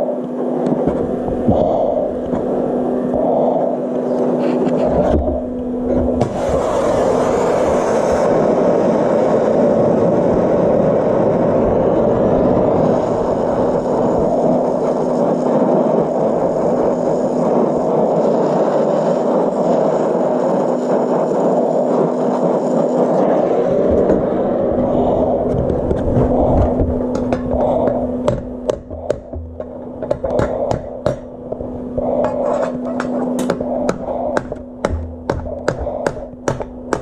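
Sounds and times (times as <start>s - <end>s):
constant low hum: 0.0s - 37.0s
welding arc crackling and hissing: 0.8s - 11.3s, 11.9s - 37.0s.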